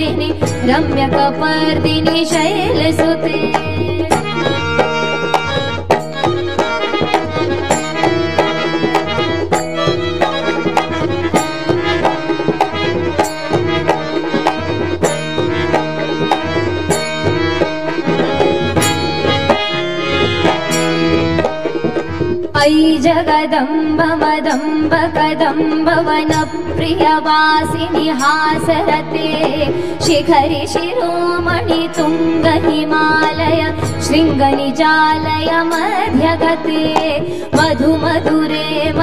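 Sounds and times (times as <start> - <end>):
tabla playing a rhythm: 0.0 - 39.0.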